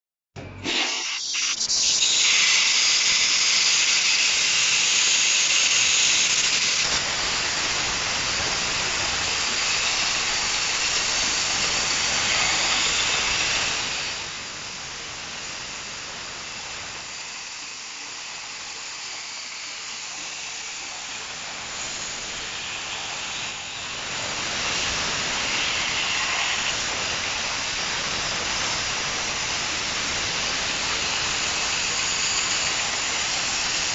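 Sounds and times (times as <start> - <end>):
dry ice blasting gun hissing: 0.5 - 33.9.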